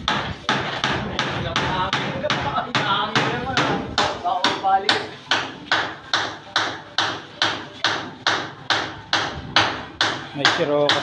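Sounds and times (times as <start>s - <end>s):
hammering: 0.0s - 11.0s.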